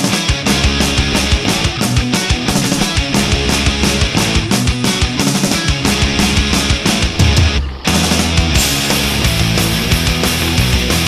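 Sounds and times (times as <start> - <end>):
loud rock music: 0.0 - 11.0
steady drum beat: 0.0 - 11.0.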